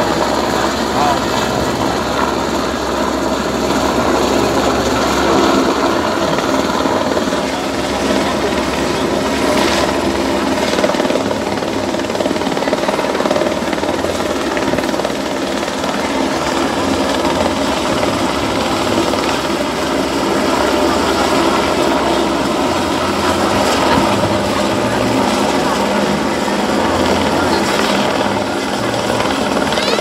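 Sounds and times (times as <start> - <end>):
helicopter turbine and rotor: 0.0 - 30.0.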